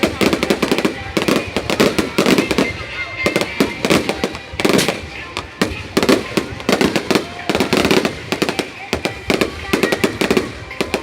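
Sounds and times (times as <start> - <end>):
fireworks cracking and banging: 0.0 - 11.0
voices: 0.0 - 11.0.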